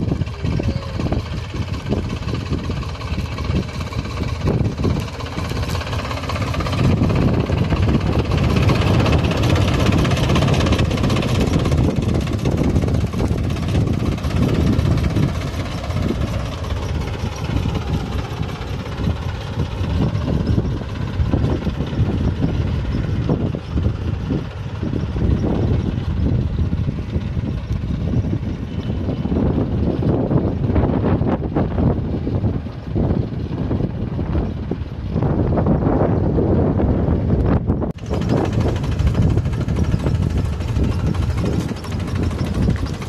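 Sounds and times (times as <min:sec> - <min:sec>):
tractor diesel engine under load: 0:00.0 - 0:43.0.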